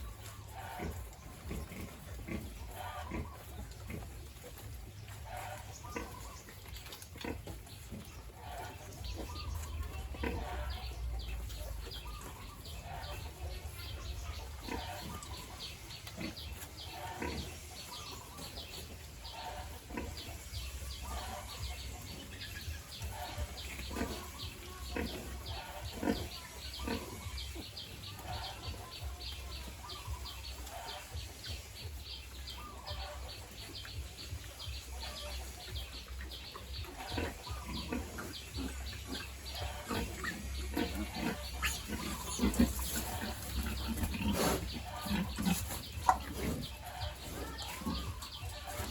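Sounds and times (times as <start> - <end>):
pigs grunting: 0.0 - 48.9.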